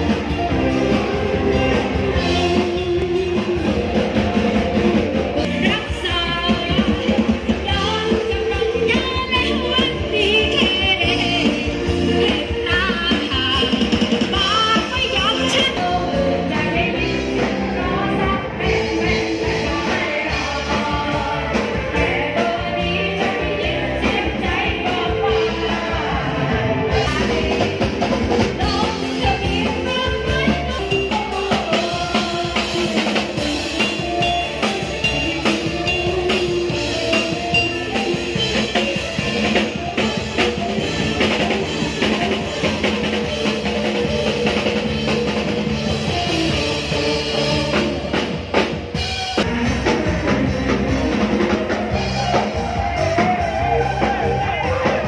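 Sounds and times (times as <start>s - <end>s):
person singing: 0.0s - 40.0s, 49.5s - 55.0s.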